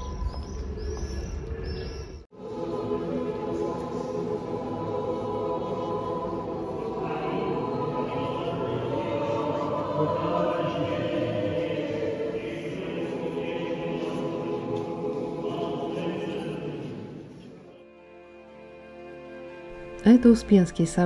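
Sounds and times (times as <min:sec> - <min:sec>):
choir chanting in long held notes: 0:02.3 - 0:19.8.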